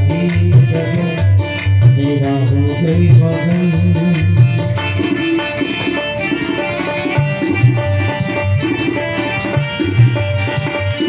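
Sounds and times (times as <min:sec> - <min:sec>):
harmonium and keyboard melody: 0:00.0 - 0:11.0
tabla rhythm: 0:00.0 - 0:11.0.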